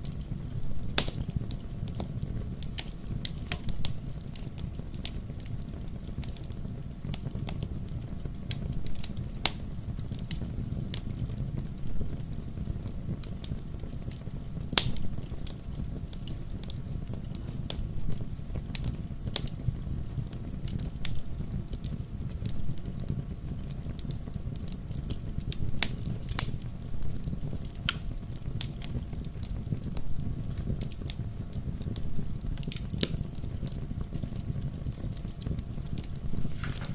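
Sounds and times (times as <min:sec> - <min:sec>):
low rumble of burning: 0:00.0 - 0:36.9
wood fire crackling: 0:00.0 - 0:36.9.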